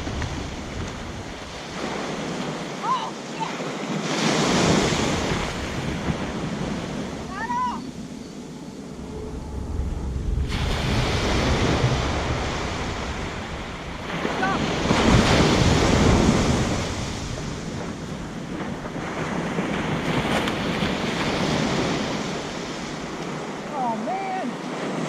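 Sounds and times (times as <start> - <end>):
wind buffeting microphone: 0.0 - 2.8, 3.7 - 25.0
ocean surf breaking: 0.0 - 25.0.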